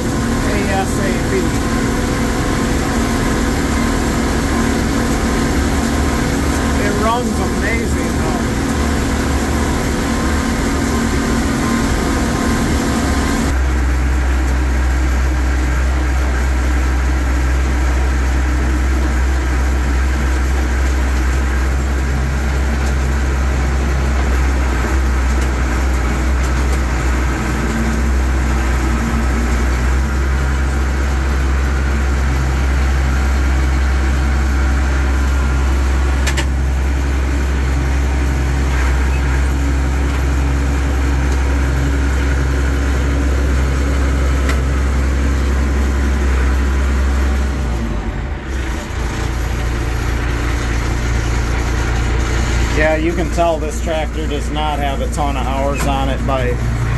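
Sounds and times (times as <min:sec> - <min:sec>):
tractor diesel engine droning: 0:00.0 - 0:56.9.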